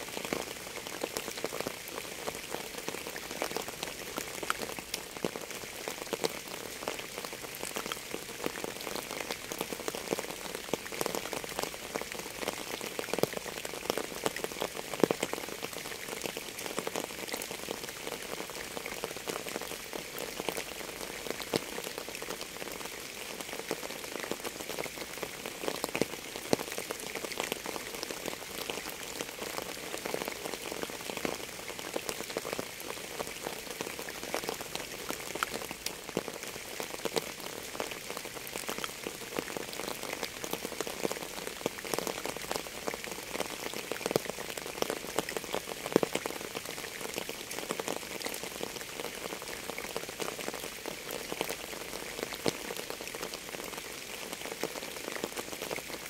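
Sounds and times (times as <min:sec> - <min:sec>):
raindrops striking close by: 0:00.0 - 0:56.0
steady rain: 0:00.0 - 0:56.0.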